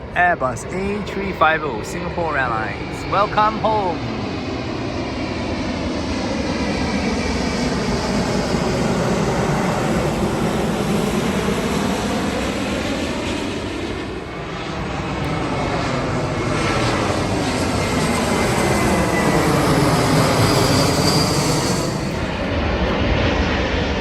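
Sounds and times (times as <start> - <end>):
jet engine passing overhead: 0.0 - 24.0.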